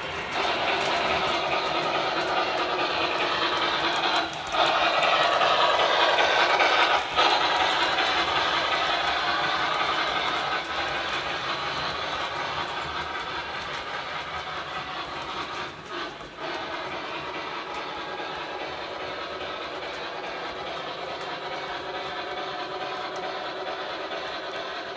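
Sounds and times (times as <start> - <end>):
model train wheels rumbling on track: 0.0 - 24.9.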